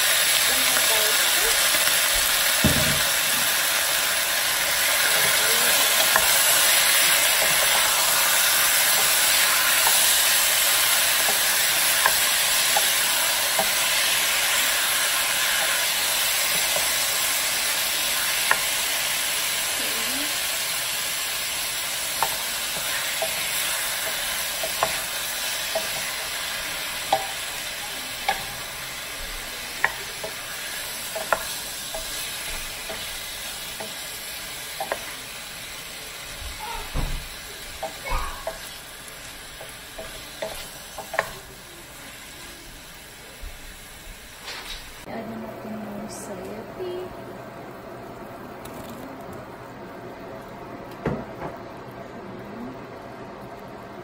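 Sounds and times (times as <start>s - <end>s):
chicken sizzling in a pot: 0.0s - 54.0s.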